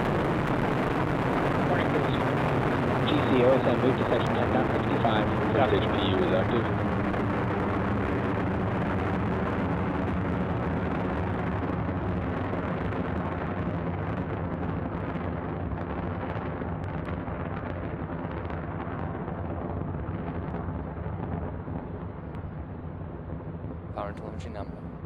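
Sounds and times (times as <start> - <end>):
rocket engine rumble with crackling: 0.0 - 25.0.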